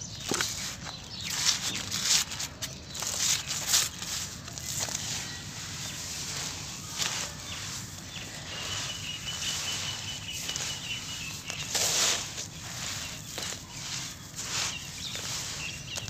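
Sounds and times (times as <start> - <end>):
hands crunching gritty mixture: 0.0 - 16.0.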